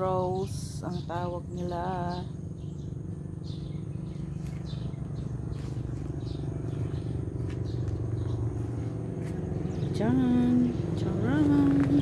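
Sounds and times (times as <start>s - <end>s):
low engine drone: 0.0s - 12.0s
small bird chirping: 0.0s - 12.0s.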